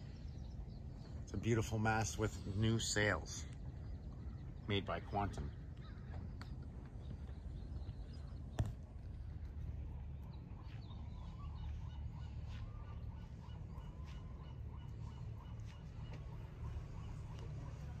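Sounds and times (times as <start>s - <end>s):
faint bird calls: 0.0s - 18.0s
low outdoor rumble: 0.0s - 18.0s.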